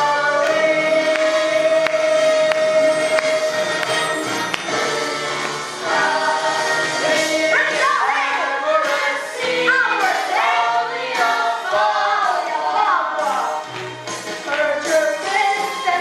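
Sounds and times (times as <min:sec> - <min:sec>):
chorus singing show tune: 0:00.0 - 0:16.0
musical accompaniment: 0:00.0 - 0:16.0.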